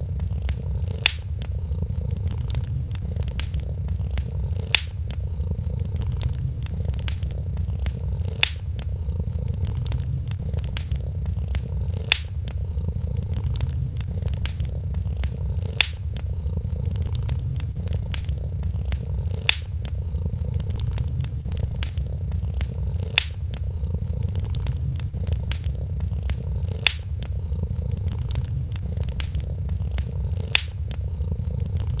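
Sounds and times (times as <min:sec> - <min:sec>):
cat purring: 0:00.0 - 0:32.0
wood fire crackling: 0:00.0 - 0:32.0.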